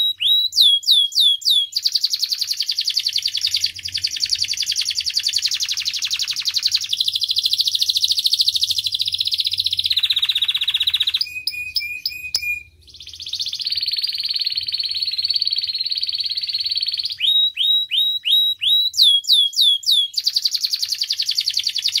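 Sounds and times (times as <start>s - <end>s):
canary down-slurred whistles: 0.0s - 22.0s
canary trilling: 0.0s - 22.0s.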